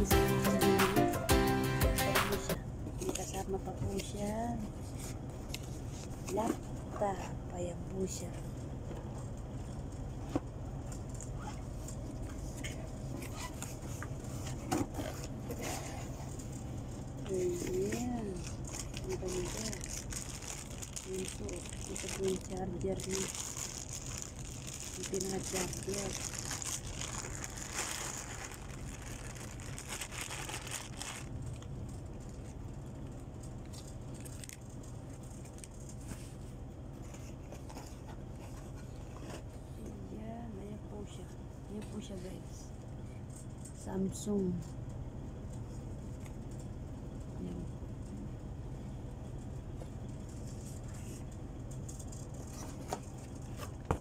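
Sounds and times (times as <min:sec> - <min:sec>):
steady low hum: 0:02.5 - 0:54.0.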